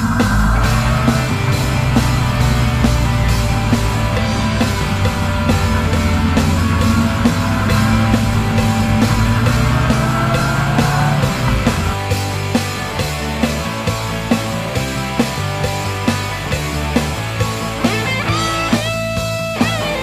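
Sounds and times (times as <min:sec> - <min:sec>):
rock music with drum beat: 0:00.0 - 0:20.0.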